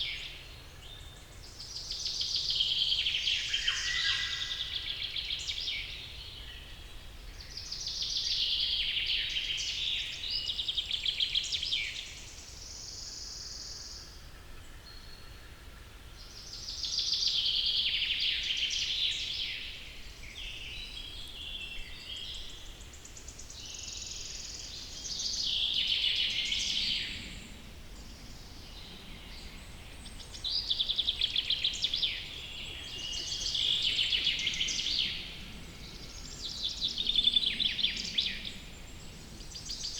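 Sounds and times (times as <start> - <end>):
faint background hiss: 0.0 - 39.9
songbird singing: 0.0 - 39.9.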